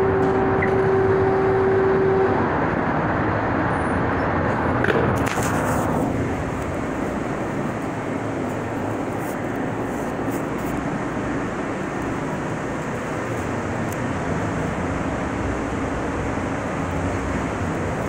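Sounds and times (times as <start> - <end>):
ventilation fans rushing air: 0.0 - 18.0.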